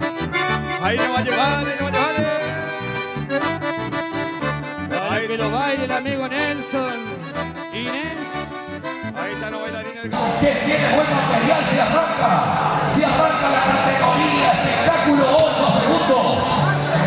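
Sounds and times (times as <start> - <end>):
accordion folk music: 0.0 - 17.0
pulsing bass beat: 0.0 - 17.0.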